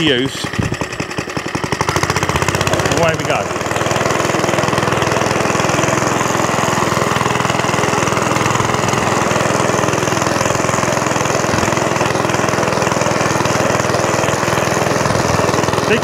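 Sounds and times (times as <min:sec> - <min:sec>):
mower cutting wet grass: 0:00.0 - 0:16.0
small petrol engine running: 0:00.0 - 0:16.0.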